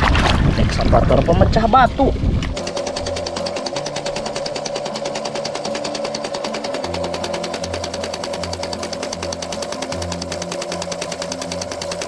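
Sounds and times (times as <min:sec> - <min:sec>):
steady motor hum: 0:00.0 - 0:12.0.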